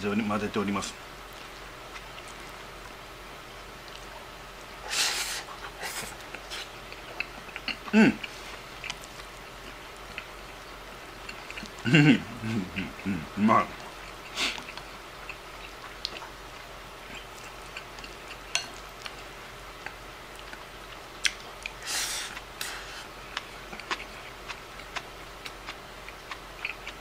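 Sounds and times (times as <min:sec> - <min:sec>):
room hum: 0:00.0 - 0:27.0.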